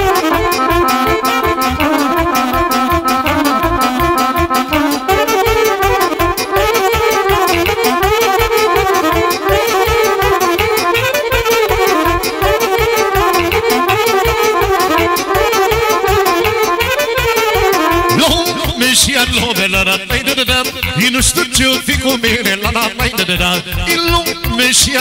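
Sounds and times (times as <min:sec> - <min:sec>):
live band playing folk dance music: 0:00.0 - 0:25.0.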